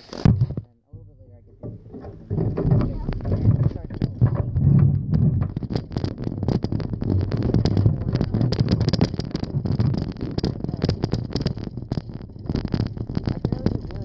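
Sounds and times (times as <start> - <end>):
bicycle rolling rumble: 1.0 - 14.0
basket rattles and clicks: 1.6 - 14.0.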